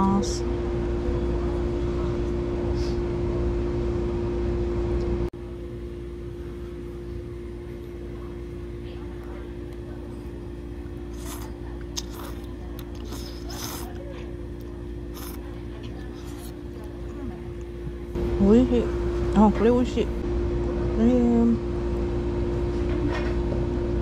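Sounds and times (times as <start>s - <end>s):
air-conditioning hum: 0.0s - 24.0s.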